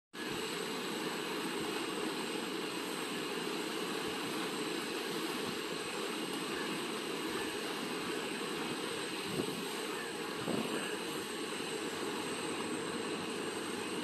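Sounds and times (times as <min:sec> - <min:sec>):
pond aerator running: 0:00.2 - 0:14.0.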